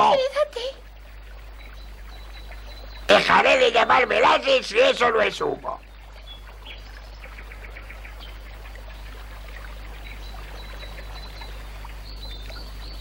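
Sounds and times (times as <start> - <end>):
faint bird chirps: 0.0 - 4.2, 5.8 - 13.0
soft steady hiss: 0.0 - 13.0.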